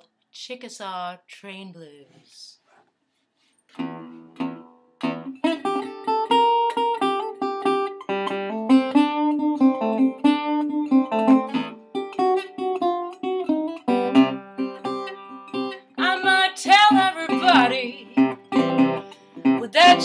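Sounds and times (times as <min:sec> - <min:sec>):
acoustic guitar blues: 0:03.8 - 0:20.0.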